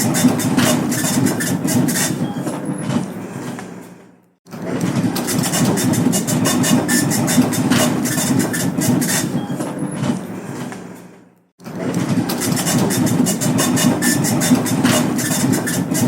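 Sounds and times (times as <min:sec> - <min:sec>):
dot matrix printer printing: 0:00.0 - 0:03.6, 0:04.5 - 0:11.0, 0:11.6 - 0:16.0.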